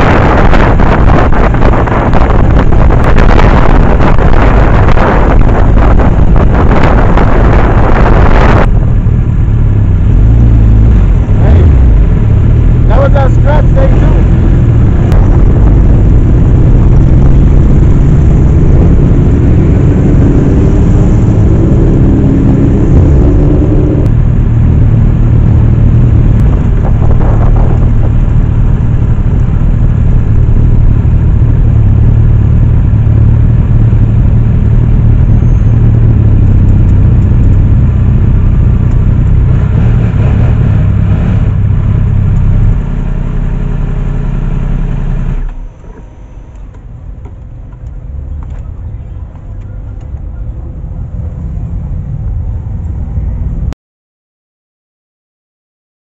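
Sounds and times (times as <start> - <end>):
motorcycle engine accelerating: 0.0 - 46.4.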